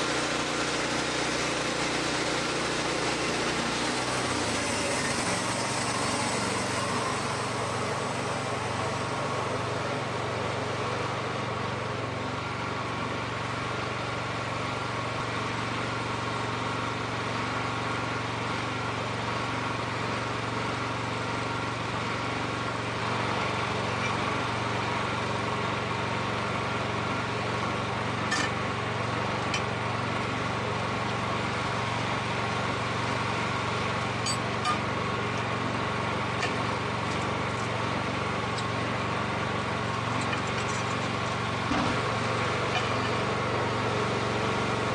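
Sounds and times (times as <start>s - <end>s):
band sawmill engine running: 0.0s - 44.9s.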